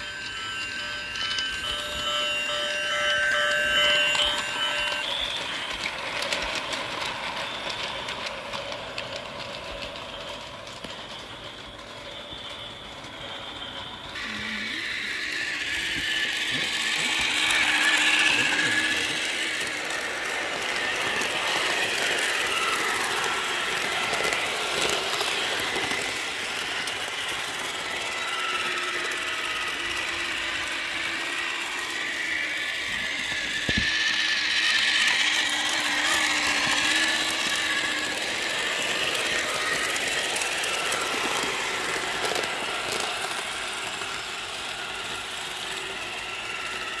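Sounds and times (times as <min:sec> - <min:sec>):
toy locomotive motor whirring: 0:00.0 - 0:47.0.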